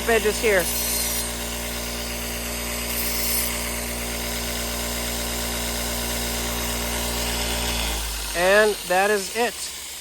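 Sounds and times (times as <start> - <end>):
grinder motor running: 0.0 - 10.0
knife hissing on grinder: 0.0 - 10.0.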